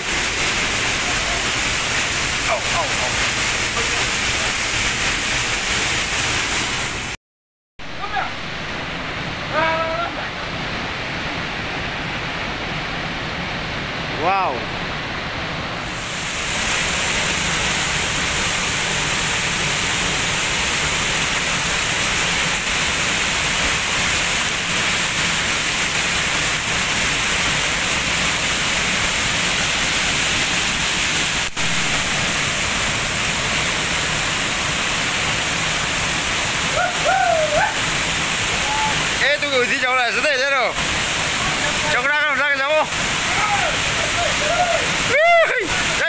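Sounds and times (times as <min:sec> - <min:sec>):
waterfall rushing: 0:00.0 - 0:07.2, 0:07.8 - 0:46.0.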